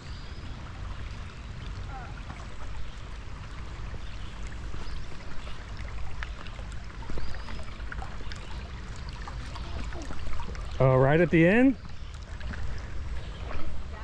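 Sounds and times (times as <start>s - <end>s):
creek water running over rocks: 0.0s - 14.0s.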